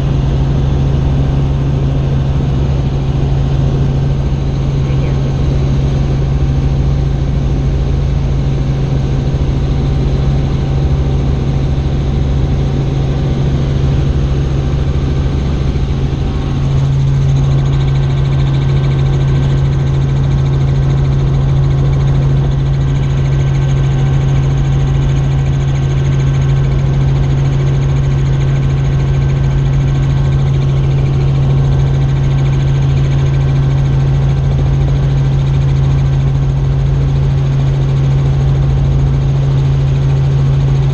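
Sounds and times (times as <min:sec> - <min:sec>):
helicopter drone: 0:00.0 - 0:40.9.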